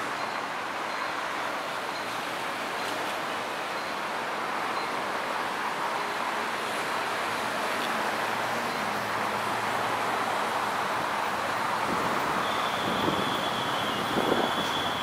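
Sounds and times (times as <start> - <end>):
city road traffic: 0.0 - 15.0.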